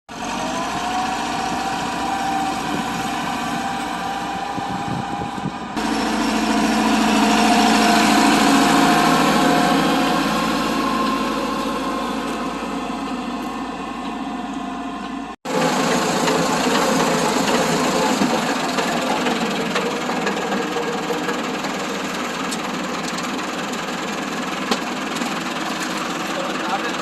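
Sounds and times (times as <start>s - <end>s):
tractor diesel engine running: 0.1s - 27.0s.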